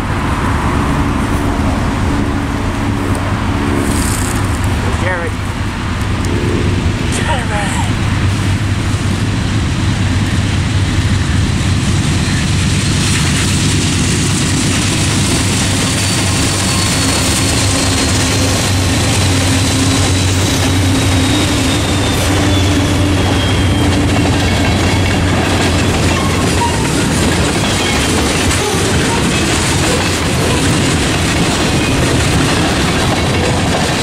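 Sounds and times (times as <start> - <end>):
diesel locomotive engine drone: 0.0 - 34.0
freight cars rolling on rails: 0.0 - 34.0.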